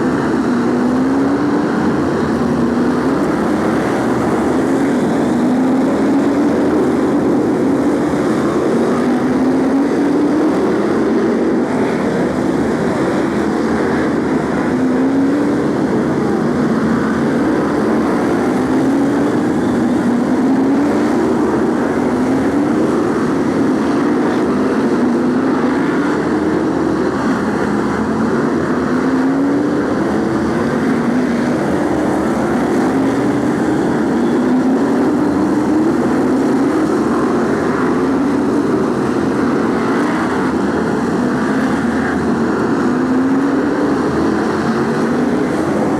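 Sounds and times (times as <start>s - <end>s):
racing car engines: 0.0s - 45.9s.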